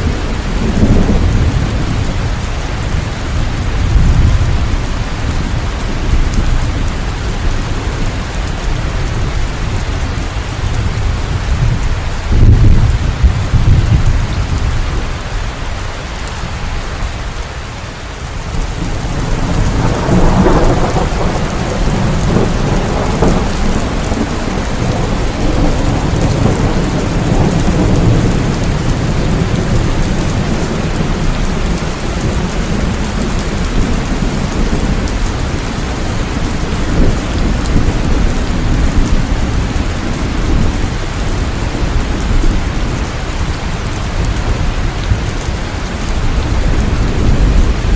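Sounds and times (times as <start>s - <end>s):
rolling thunder: 0.0s - 15.3s, 18.4s - 47.9s
steady rain: 0.0s - 47.9s.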